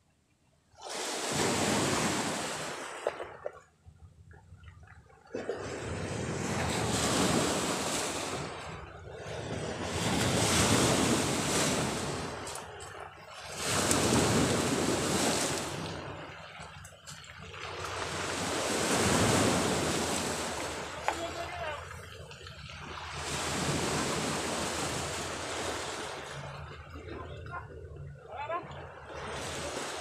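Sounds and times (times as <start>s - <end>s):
wind: 0.0s - 30.0s
sea waves washing onto shore: 0.8s - 3.5s, 5.4s - 30.0s.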